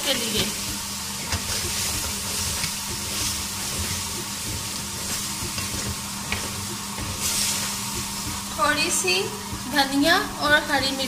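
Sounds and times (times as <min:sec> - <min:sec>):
root slices sizzling in hot oil: 0:00.0 - 0:11.0.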